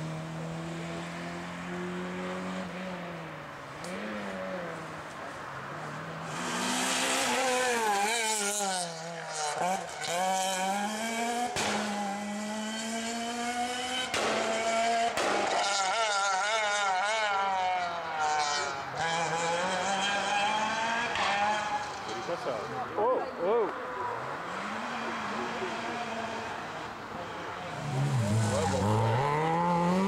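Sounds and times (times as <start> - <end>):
rally car engines revving past: 0.0 - 23.0, 23.7 - 30.0.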